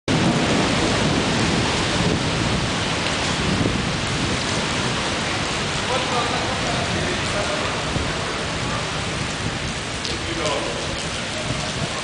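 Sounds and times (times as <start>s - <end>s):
heavy rain: 0.1s - 12.0s
rumble of thunder: 0.1s - 12.0s.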